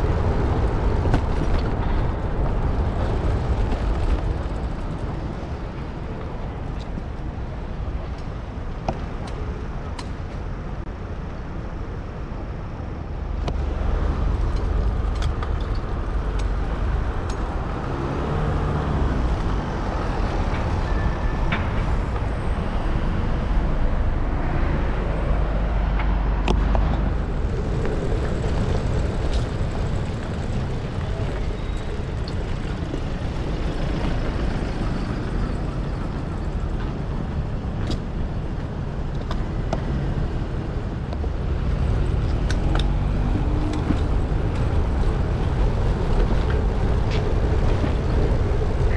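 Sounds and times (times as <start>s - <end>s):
city road traffic: 0.0s - 48.9s
wind rumble on microphone: 0.0s - 48.9s.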